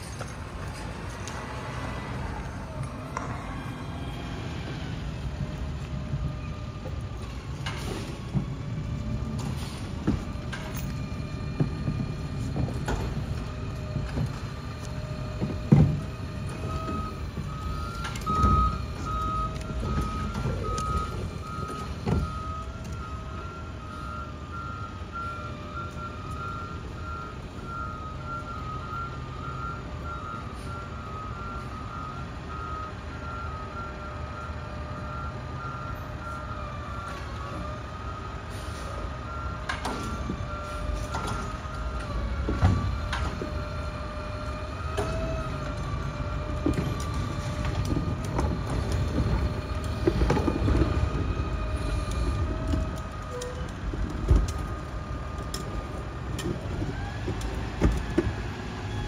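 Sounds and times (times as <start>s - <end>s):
garbage truck diesel engine: 0.0s - 59.0s
reversing alarm beeping: 0.0s - 59.0s.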